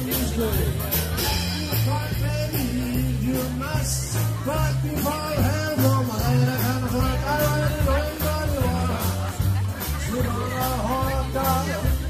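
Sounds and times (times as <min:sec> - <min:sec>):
live jazz band through pa: 0:00.0 - 0:12.0.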